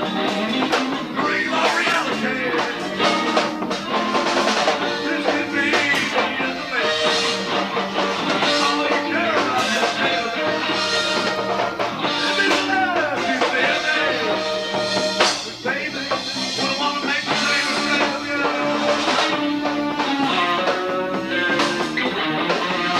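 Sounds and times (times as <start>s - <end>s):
bass guitar: 0.0s - 22.9s
drum kit and cymbals: 0.0s - 22.9s
electric guitar: 0.0s - 22.9s.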